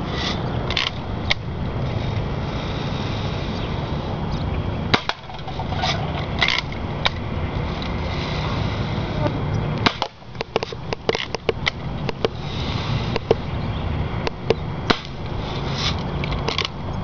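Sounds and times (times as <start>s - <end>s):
outdoor noise: 0.0s - 17.0s.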